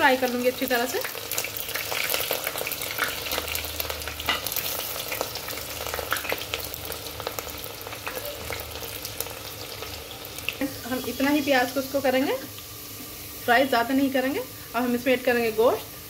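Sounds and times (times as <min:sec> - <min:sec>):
onion and spices sizzling in oil: 0:00.0 - 0:16.0.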